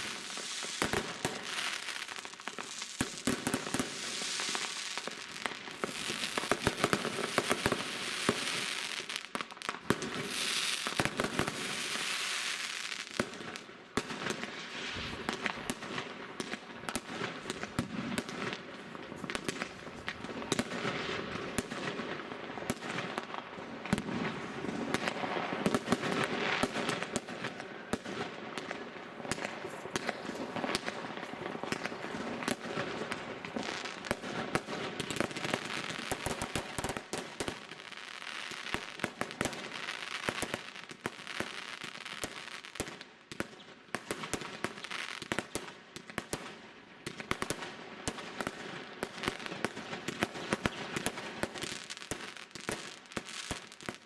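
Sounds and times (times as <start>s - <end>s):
fireworks bangs: 0.0s - 43.5s.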